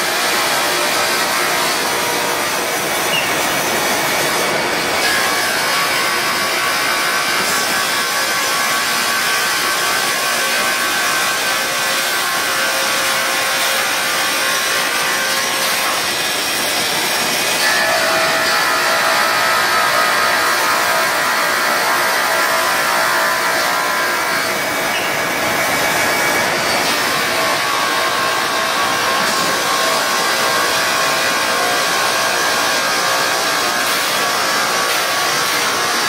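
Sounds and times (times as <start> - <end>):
edging machine grinding board: 0.0 - 36.0.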